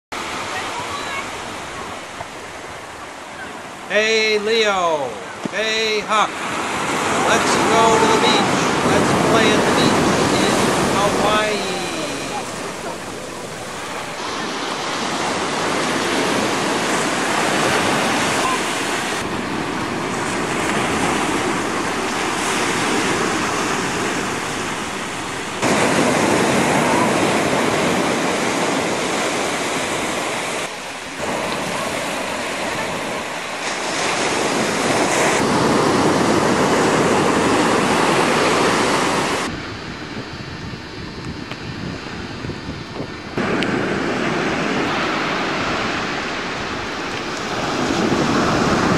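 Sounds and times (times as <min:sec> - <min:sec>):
surf breaking on beach: 0:00.2 - 0:42.6, 0:43.4 - 0:48.9.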